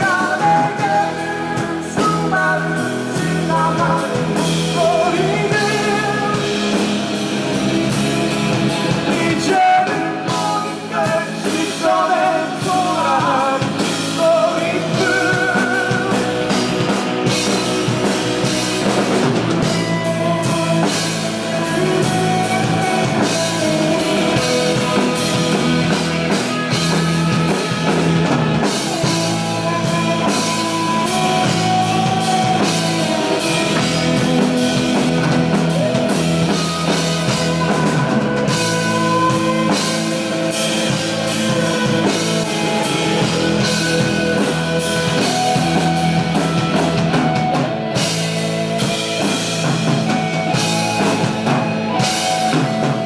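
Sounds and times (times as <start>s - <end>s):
drum kit playing: 0.0s - 53.0s
electric guitars: 0.0s - 53.0s.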